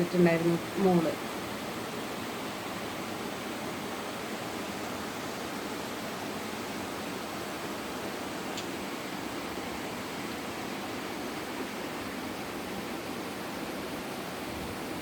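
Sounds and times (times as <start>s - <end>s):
water rushing over waterfall: 0.2s - 15.0s.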